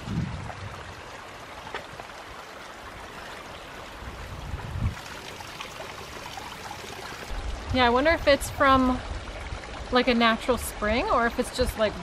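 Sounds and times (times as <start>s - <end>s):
stream babbling over rocks: 0.0s - 12.0s.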